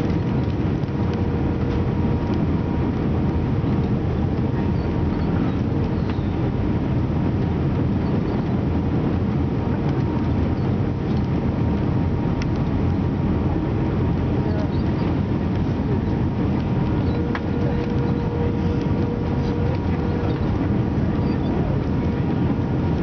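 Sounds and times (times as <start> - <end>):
airplane cabin engine rush: 0.0 - 23.0
faint steady hum: 0.0 - 23.0.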